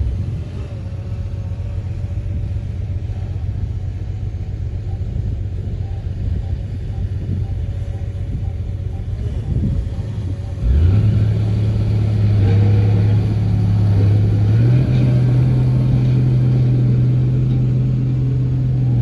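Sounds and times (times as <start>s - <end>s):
diesel earthmoving machine running: 0.0s - 19.0s.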